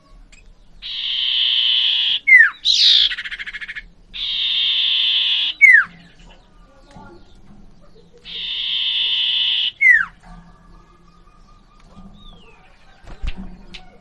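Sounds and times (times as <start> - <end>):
bird singing buzzy trills and whistles: 0.0 - 14.0.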